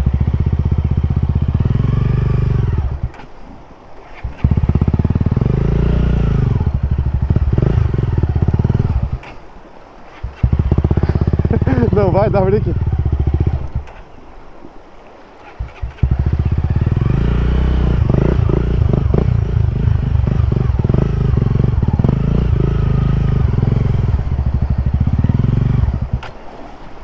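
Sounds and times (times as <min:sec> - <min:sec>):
motorcycle engine revving: 0:00.0 - 0:03.3, 0:04.0 - 0:09.4, 0:10.0 - 0:14.1, 0:15.4 - 0:26.4.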